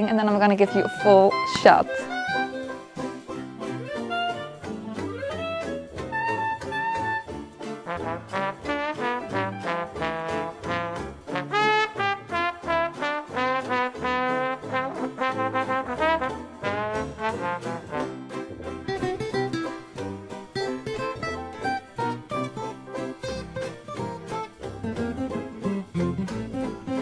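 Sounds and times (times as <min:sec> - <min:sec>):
upbeat jazz with brass: 0:00.9 - 0:27.0.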